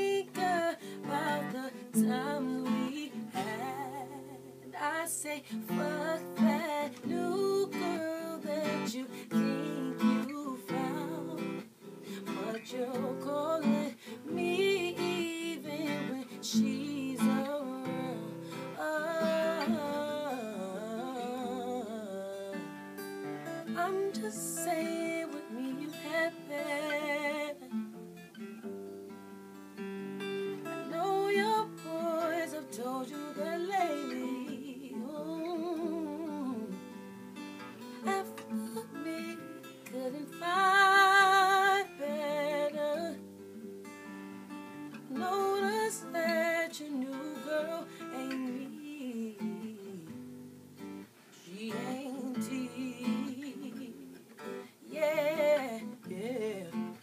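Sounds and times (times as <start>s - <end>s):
woman singing wordless runs: 0.0s - 11.6s, 12.2s - 22.8s, 23.7s - 27.8s, 30.9s - 36.8s, 38.0s - 43.2s, 45.1s - 50.2s, 51.4s - 57.0s
acoustic guitar picking and strumming: 0.0s - 57.0s.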